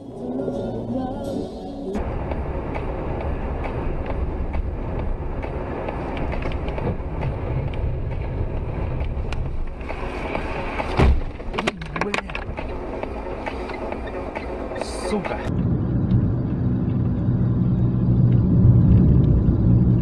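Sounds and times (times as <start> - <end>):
road and tyre rumble: 0.0 - 20.0.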